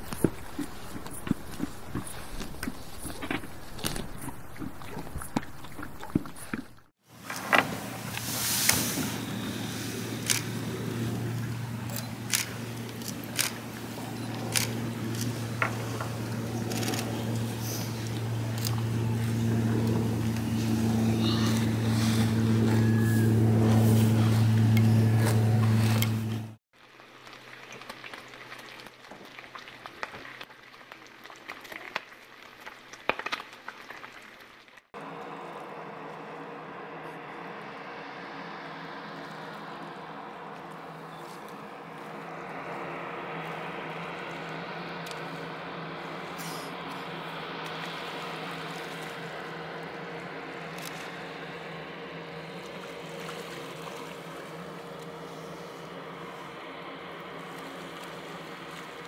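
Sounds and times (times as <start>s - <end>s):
engine drone: 0.0s - 26.6s, 35.0s - 59.0s.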